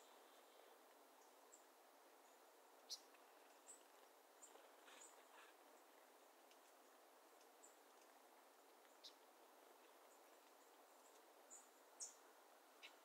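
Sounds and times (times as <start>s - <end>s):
soft steady hiss: 0.0s - 13.0s
small bird chips and calls: 1.2s - 13.0s.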